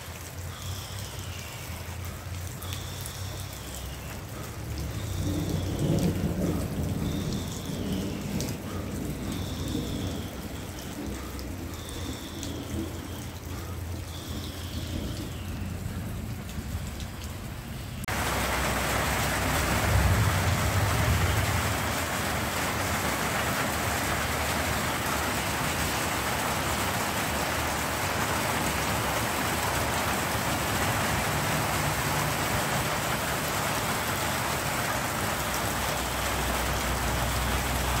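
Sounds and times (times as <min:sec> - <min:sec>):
heavy rain hissing: 0:00.0 - 0:38.0.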